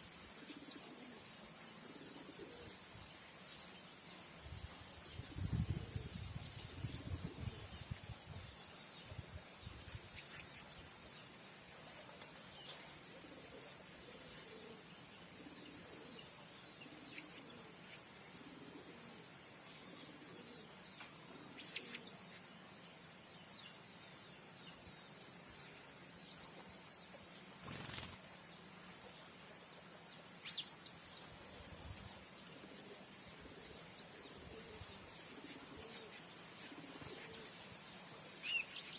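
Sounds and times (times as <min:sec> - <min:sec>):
insect chorus chirring: 0:00.0 - 0:38.9.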